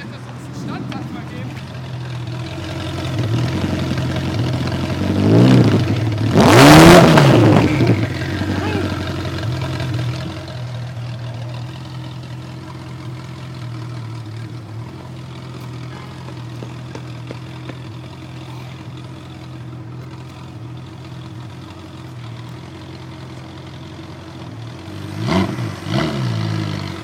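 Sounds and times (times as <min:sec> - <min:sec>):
engine revving: 0:00.0 - 0:22.5, 0:24.3 - 0:27.0
car engine idling: 0:00.0 - 0:27.0.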